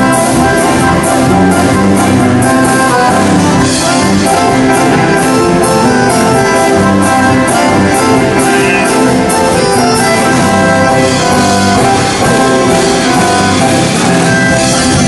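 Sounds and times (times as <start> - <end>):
music with many instruments: 0.0 - 15.0.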